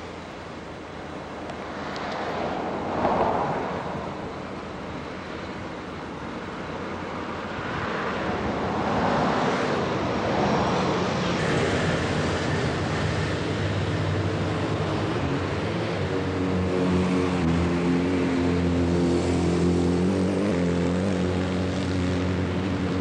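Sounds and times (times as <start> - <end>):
vehicle engine drone: 0.0 - 23.0.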